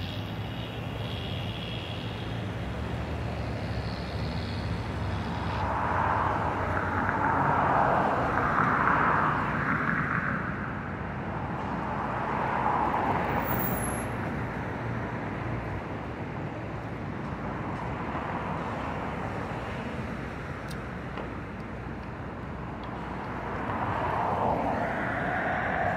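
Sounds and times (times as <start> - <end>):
cars passing: 0.0 - 25.9.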